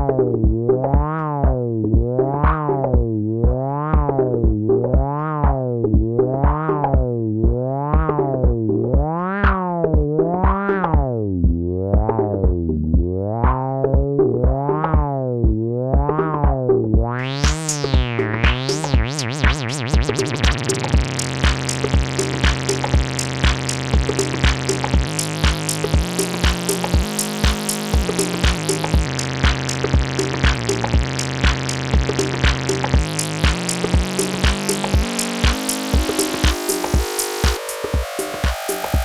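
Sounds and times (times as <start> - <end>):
synthesizer sequence with filter sweeps: 0.0 - 7.1, 12.1 - 39.0
drum machine kick beat: 0.0 - 39.0
held low synth notes: 0.0 - 39.0.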